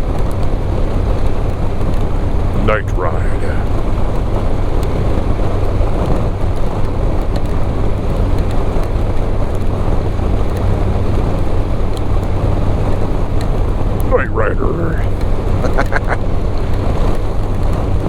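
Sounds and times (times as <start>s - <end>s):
motorcycle engine drone: 0.0s - 18.0s
wind rushing over microphone: 0.0s - 18.0s.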